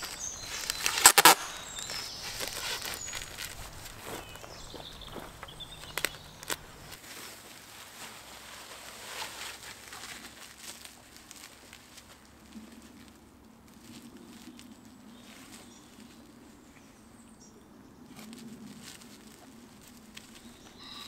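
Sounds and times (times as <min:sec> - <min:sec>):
bubble wrap rustling and crinkling: 0:00.0 - 0:16.7, 0:18.1 - 0:21.0.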